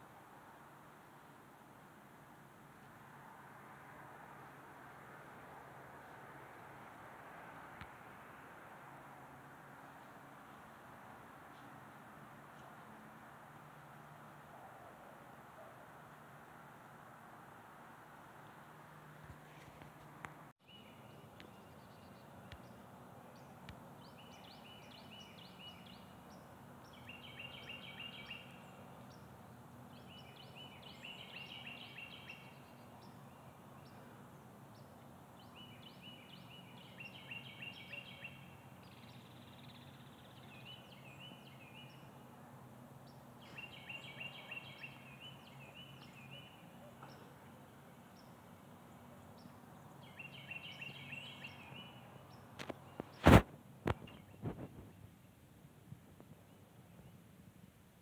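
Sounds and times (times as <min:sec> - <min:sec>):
songbird singing: 0:02.8 - 0:57.8.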